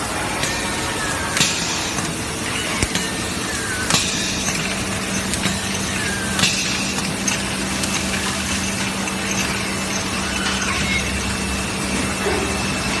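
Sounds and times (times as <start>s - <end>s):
machinery whirring: 0.0s - 13.0s.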